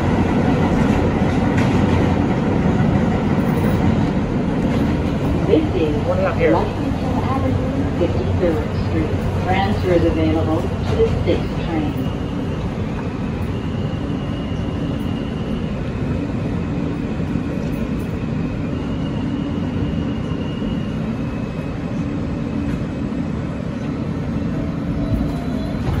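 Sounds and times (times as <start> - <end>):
subway train wheels rumbling: 0.0 - 26.0.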